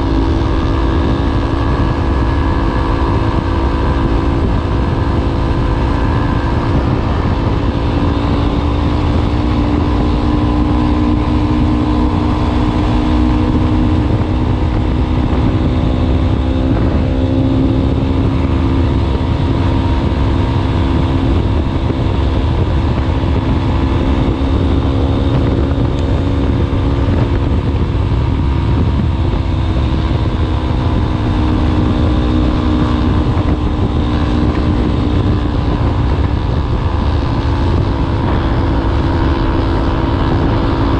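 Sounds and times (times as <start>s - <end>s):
motorcycle engine exhaust rumble: 0.0s - 40.9s.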